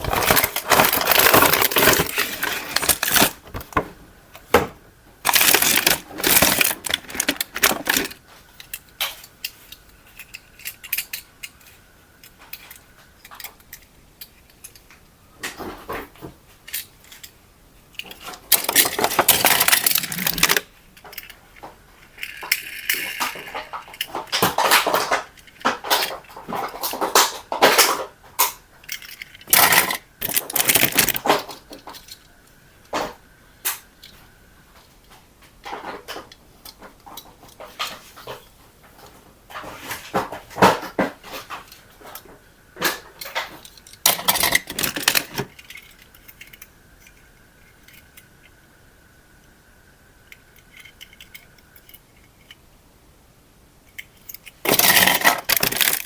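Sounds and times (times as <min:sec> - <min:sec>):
small hard objects clattering: 0:00.0 - 0:13.9, 0:14.5 - 0:32.3, 0:35.6 - 0:48.2, 0:54.0 - 0:56.0.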